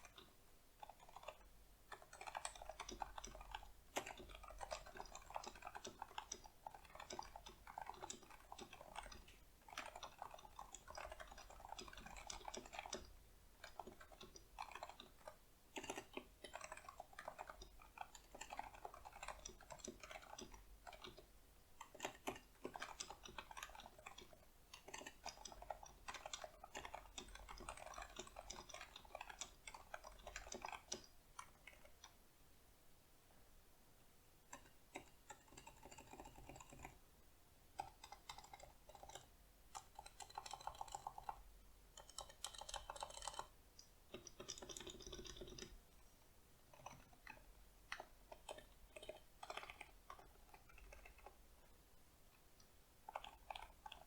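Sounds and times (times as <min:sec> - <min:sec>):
keyboard typing soft clicks: 0:00.0 - 0:32.2, 0:34.0 - 0:37.0, 0:37.7 - 0:46.1, 0:46.7 - 0:54.0.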